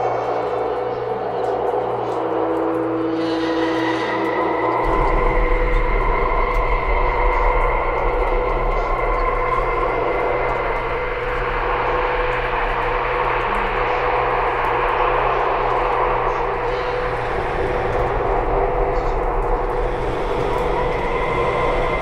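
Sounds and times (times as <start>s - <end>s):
constant whine: 0.0s - 22.0s
low hum: 0.0s - 22.0s
machine drone and hiss: 0.0s - 22.0s.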